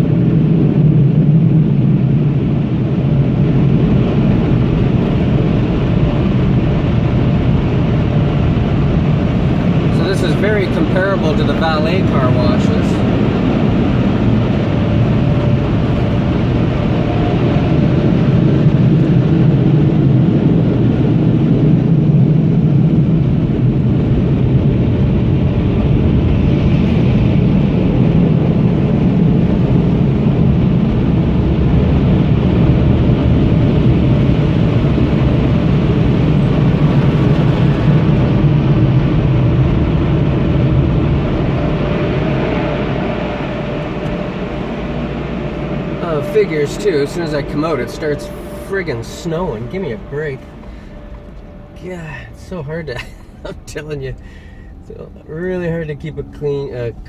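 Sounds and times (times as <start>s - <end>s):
air blower dryers roaring: 0.0s - 57.0s.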